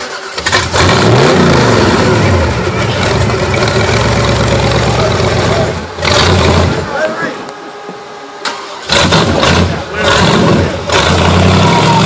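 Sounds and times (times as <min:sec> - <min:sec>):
buggy engine revving hard: 0:00.0 - 0:06.9, 0:08.8 - 0:12.0.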